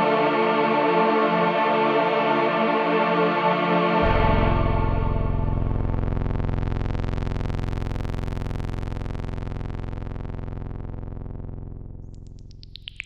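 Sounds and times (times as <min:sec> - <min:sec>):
low synthesizer drone: 0:00.0 - 0:13.0.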